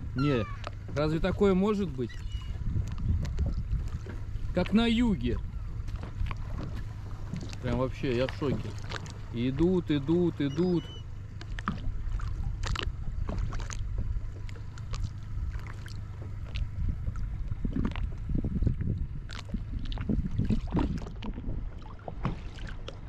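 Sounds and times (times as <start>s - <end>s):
steady low rumble: 0.0s - 23.0s
waves lapping against boat hull: 0.0s - 23.0s.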